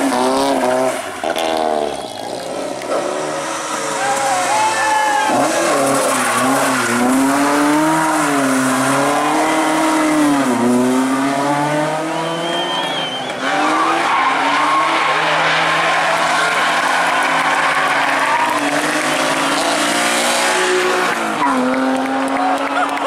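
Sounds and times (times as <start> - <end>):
rally car engine revving: 0.0 - 23.0
second rally car engine: 0.0 - 23.0.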